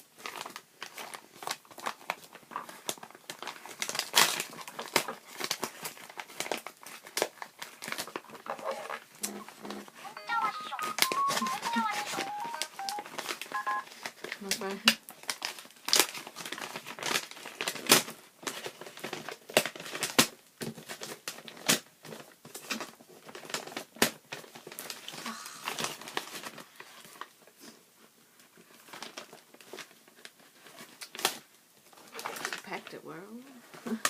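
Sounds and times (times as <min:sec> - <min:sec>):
packing material crinkling: 0:00.0 - 0:32.7.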